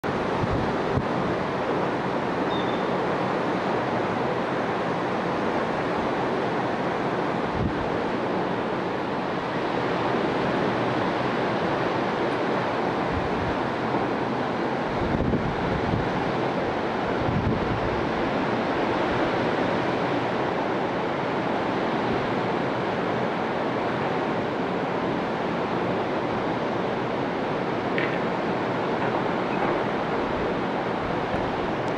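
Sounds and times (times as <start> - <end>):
ocean surf: 0.0 - 31.9
wind: 0.0 - 31.9.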